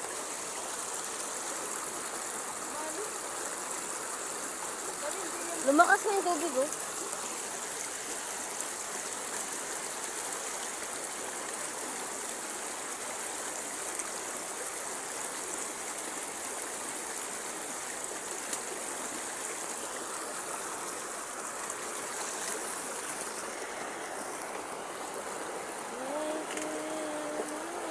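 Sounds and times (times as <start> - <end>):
stream water flowing: 0.0 - 27.9.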